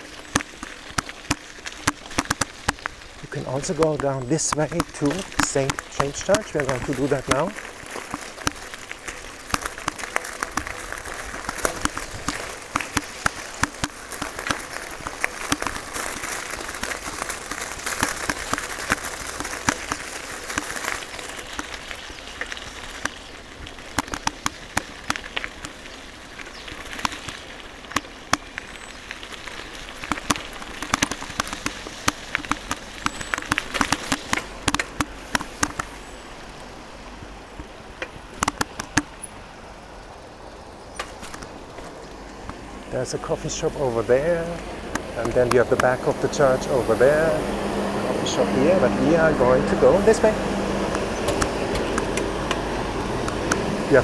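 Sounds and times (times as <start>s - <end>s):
raindrops hitting close: 0.0s - 54.0s
rainfall hiss: 0.0s - 54.0s.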